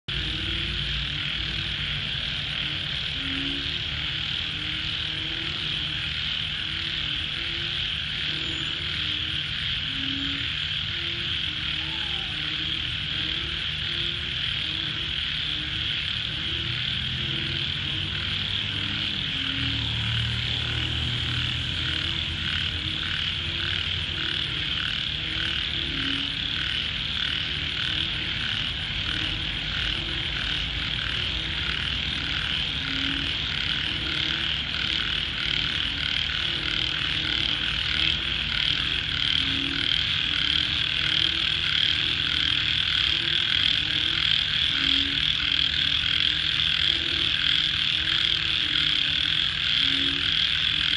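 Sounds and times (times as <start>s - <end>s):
frog chorus pulsing: 0.1s - 50.9s
low frog croaks: 0.1s - 50.9s.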